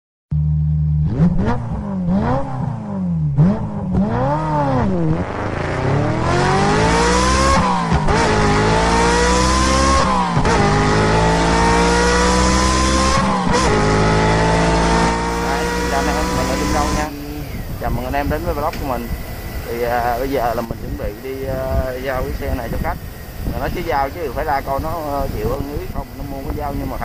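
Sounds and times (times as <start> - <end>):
motorcycle engine revving: 0.3 - 27.0.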